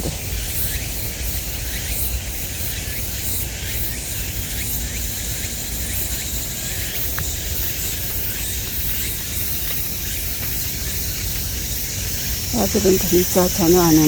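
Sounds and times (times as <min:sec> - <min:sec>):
insects hissing: 0:00.0 - 0:14.0.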